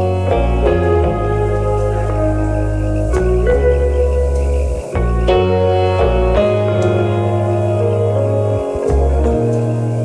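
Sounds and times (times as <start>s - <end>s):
calm new-age synth music: 0.0s - 10.0s.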